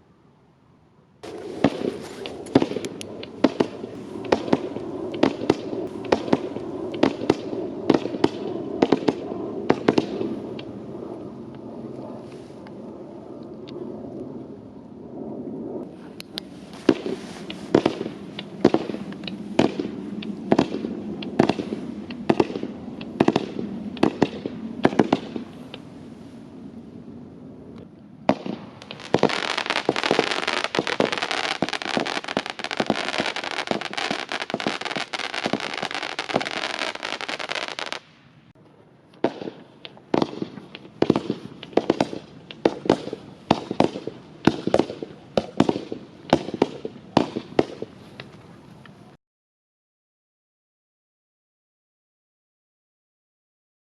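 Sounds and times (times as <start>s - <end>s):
dense steady hiss: 0.0s - 12.7s, 15.9s - 49.2s.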